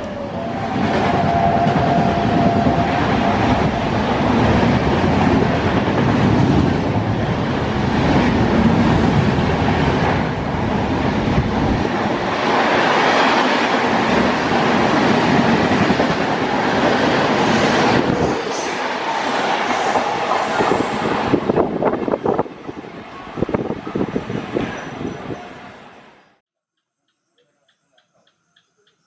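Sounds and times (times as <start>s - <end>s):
train wheels rushing on track: 0.0s - 26.0s.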